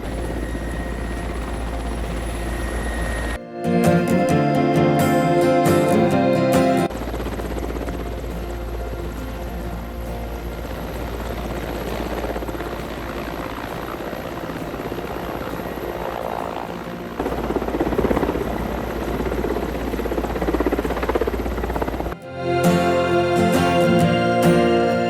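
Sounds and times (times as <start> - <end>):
helicopter rotor and turbine hum: 0.0 - 25.0.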